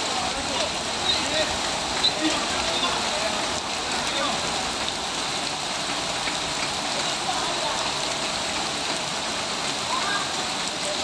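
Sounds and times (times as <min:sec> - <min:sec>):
torrential rain hissing: 0:00.0 - 0:11.0.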